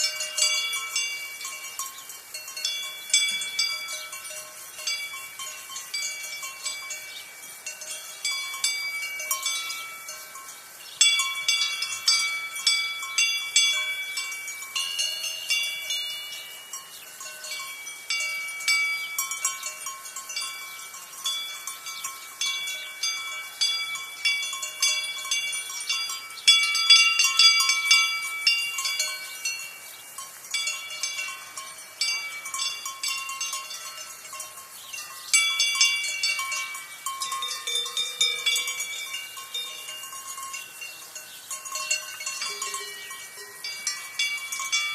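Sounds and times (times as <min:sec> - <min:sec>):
cowbells clanking: 0:00.0 - 0:44.9.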